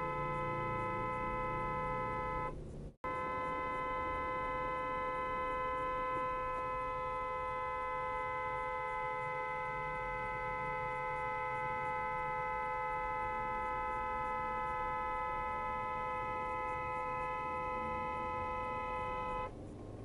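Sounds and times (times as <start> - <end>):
vehicle horn blast: 0.0 - 19.5.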